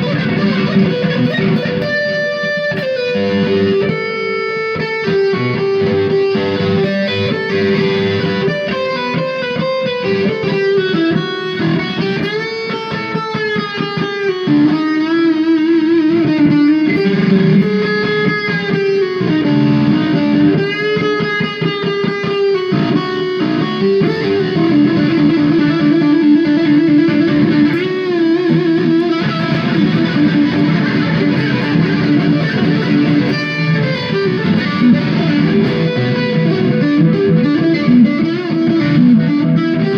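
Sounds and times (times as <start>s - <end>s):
electric guitar lead: 0.0s - 39.9s.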